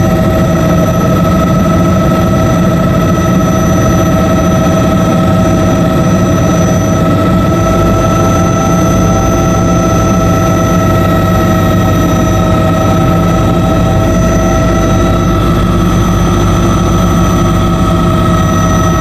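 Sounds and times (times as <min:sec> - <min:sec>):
helicopter rotor rumble: 0:00.0 - 0:19.0
turbine engine high whine: 0:00.0 - 0:19.0.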